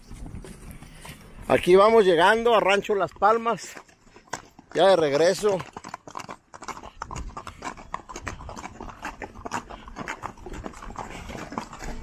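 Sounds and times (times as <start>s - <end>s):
horse hooves clip-clopping on asphalt: 0.0s - 12.0s.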